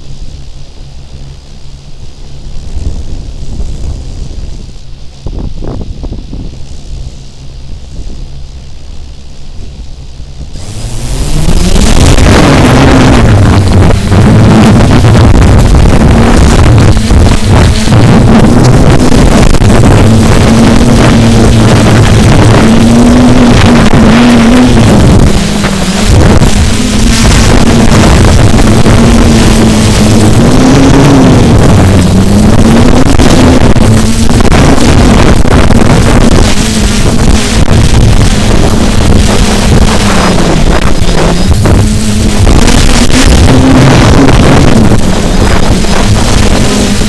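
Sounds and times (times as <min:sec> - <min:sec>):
drone motors buzzing: 0:00.0 - 0:47.0
wind noise on microphone: 0:00.0 - 0:47.0.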